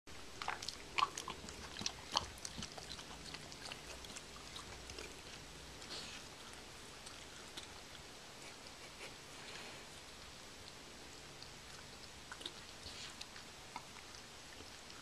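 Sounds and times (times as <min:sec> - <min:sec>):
dog licking and chewing: 0:00.2 - 0:15.0.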